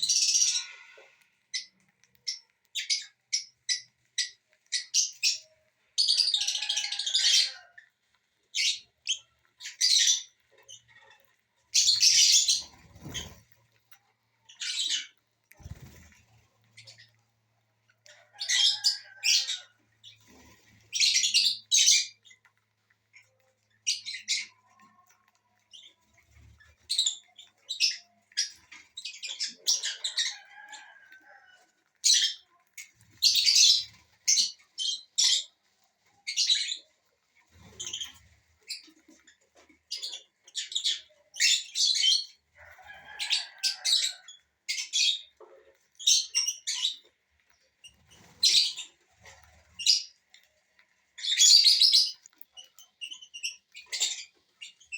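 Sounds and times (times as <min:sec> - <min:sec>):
parrots chirping and squawking: 0:00.0 - 0:54.9.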